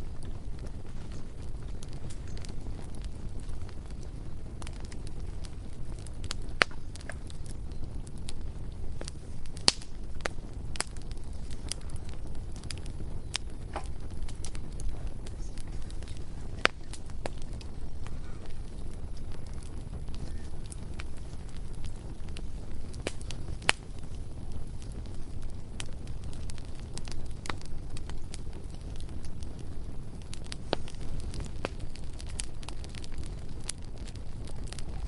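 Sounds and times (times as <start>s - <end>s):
bonfire flames rumbling: 0.0s - 35.0s
burning wood crackling and popping: 0.0s - 35.0s.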